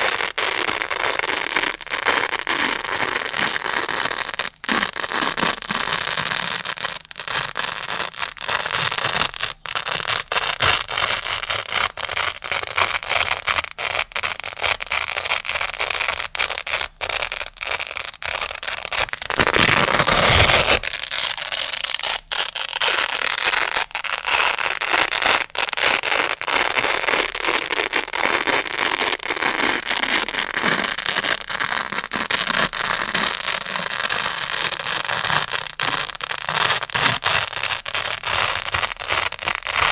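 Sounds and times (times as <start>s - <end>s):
velcro crackling pulling apart: 0.0s - 39.9s.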